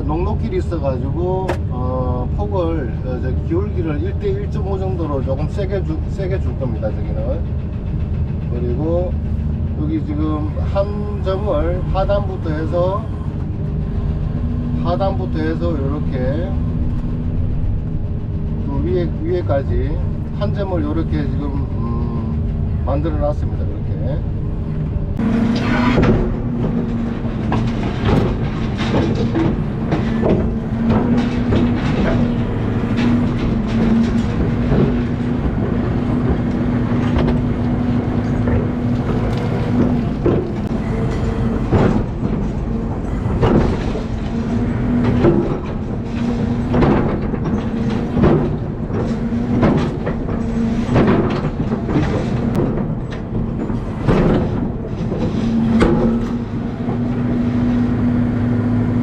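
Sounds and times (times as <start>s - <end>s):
excavator engine and hydraulics hum: 0.0s - 59.0s.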